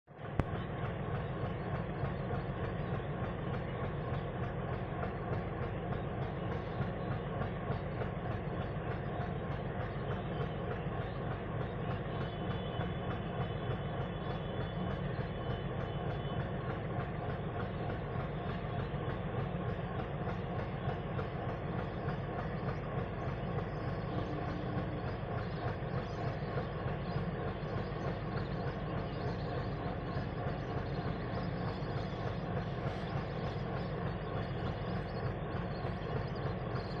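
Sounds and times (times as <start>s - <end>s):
locomotive engine droning: 0.1s - 37.0s.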